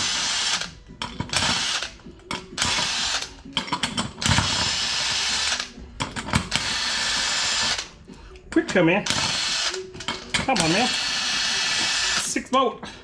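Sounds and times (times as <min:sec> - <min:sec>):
impact wrench undoing wheel nuts: 0:00.0 - 0:07.9, 0:08.6 - 0:12.3.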